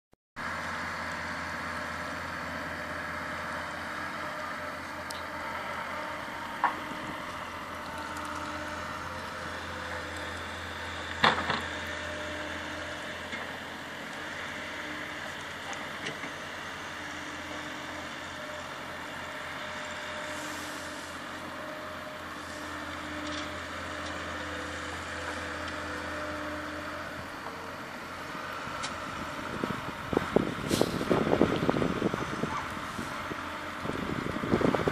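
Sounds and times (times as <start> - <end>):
outdoor low hum: 0.4 - 34.9.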